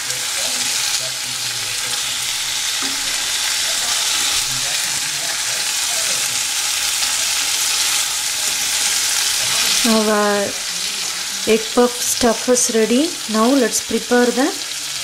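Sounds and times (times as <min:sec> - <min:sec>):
eggs sizzling in oil: 0:00.0 - 0:15.0.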